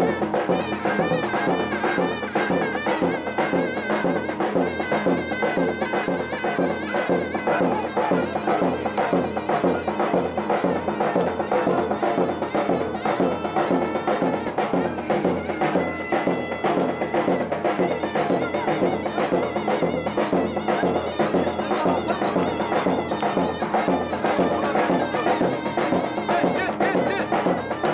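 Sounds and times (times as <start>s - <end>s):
reed pipe melody: 0.0s - 27.9s
steady drum beat: 0.0s - 27.9s.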